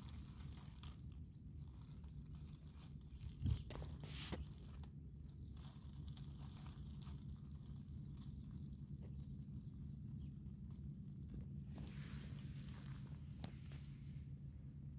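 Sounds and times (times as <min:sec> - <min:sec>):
dry leaves crackling: 0:00.0 - 0:14.9
steady low hum: 0:00.0 - 0:14.9.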